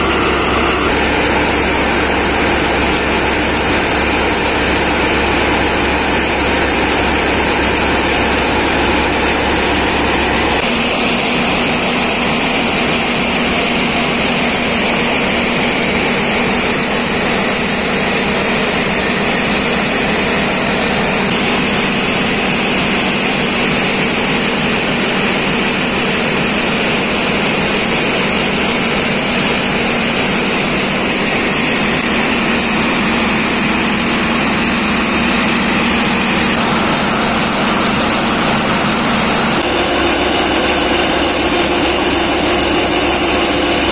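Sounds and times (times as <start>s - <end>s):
diesel tractor engine: 0.0s - 43.9s
thresher machine din: 0.0s - 43.9s.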